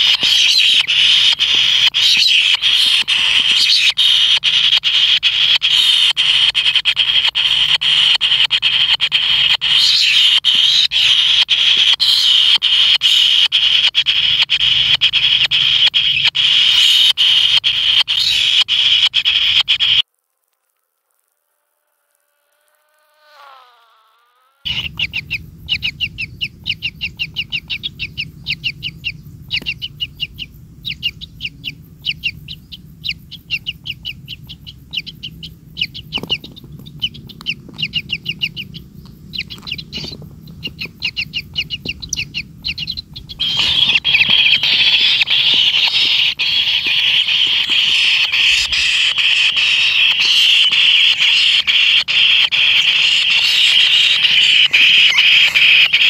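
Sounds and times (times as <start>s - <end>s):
harsh churring: 0.0s - 20.0s, 24.7s - 56.0s
nestlings chirping: 0.0s - 20.0s, 24.7s - 56.0s.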